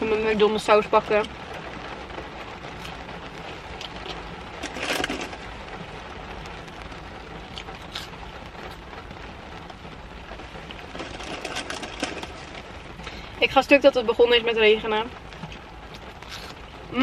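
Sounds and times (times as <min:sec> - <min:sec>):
rain on a car roof: 0:00.0 - 0:17.0.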